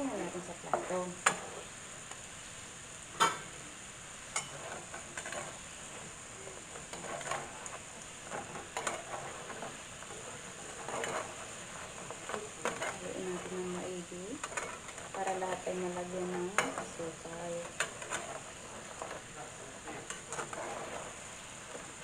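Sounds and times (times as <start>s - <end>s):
utensils scraping and knocking pan: 0.0s - 1.7s, 4.3s - 22.0s
dough sizzling in a frying pan: 0.0s - 22.0s.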